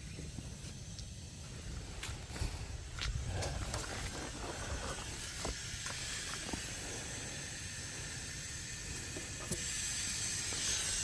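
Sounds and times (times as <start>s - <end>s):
compressed air hissing: 0.3s - 11.0s.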